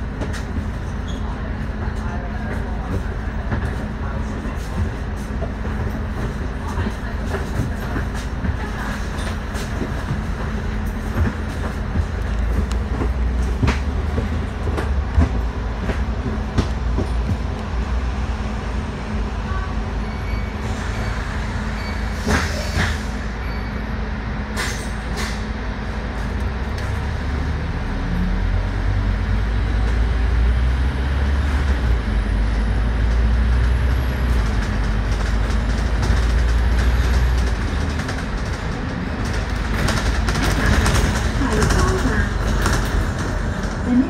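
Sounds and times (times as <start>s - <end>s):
bus engine rumble: 0.0s - 44.0s.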